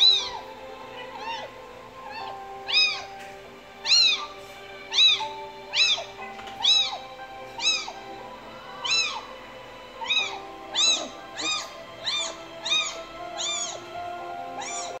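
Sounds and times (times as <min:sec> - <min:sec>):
kitten meowing: 0:00.0 - 0:03.2, 0:03.8 - 0:08.0, 0:08.8 - 0:09.3, 0:10.0 - 0:13.9, 0:14.6 - 0:15.0
soft steady music: 0:00.0 - 0:15.0.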